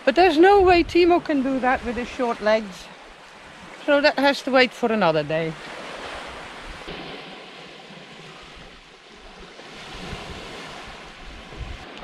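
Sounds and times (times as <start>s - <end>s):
wind buffeting microphone: 0.0s - 3.8s, 5.6s - 12.0s
gentle surf: 0.0s - 12.0s
wind: 0.0s - 12.0s.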